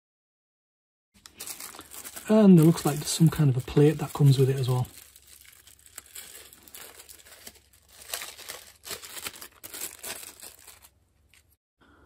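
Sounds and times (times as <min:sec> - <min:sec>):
plastic bag crinkling: 0:01.2 - 0:11.6.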